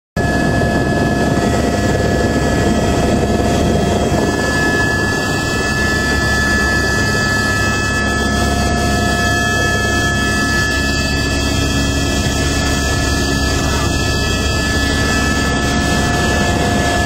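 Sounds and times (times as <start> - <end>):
helicopter engine and rotor drone: 0.2 - 17.0.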